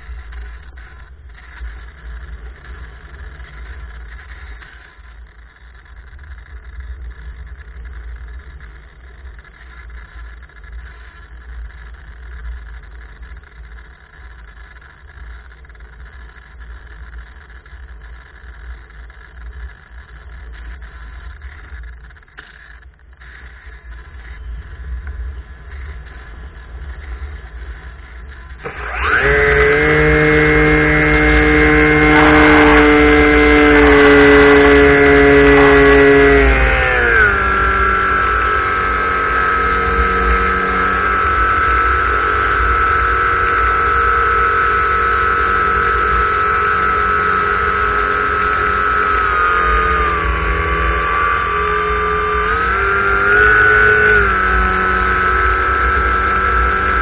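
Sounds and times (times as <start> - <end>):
model airplane motor and propeller: 0.0 - 57.0.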